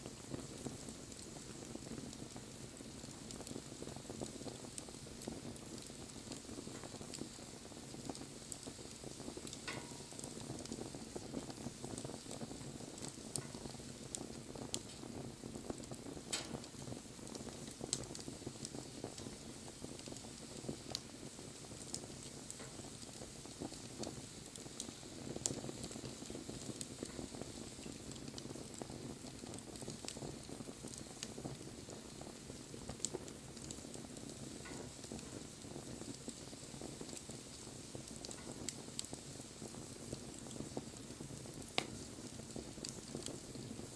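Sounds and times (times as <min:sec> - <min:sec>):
burning wood crackling: 0:00.1 - 0:43.9.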